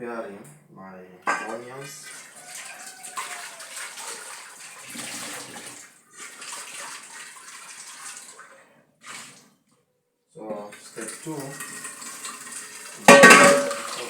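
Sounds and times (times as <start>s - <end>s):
tap water running and splashing: 1.3s - 9.7s, 10.6s - 14.0s.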